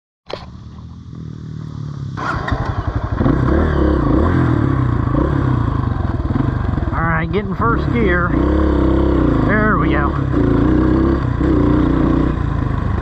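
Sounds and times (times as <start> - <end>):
dirt bike engine running: 0.4 - 13.0.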